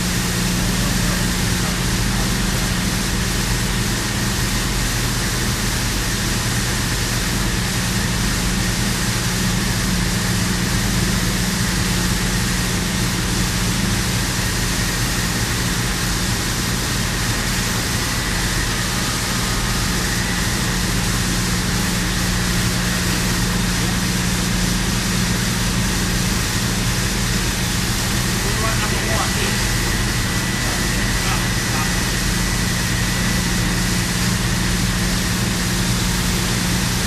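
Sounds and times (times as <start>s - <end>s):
loud constant hiss: 0.0s - 37.0s
low machinery hum: 0.0s - 37.0s.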